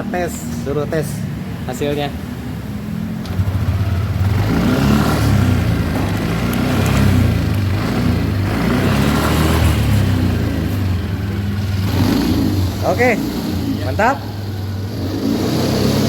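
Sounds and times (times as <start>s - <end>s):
scooter engine revving: 2.2s - 16.0s.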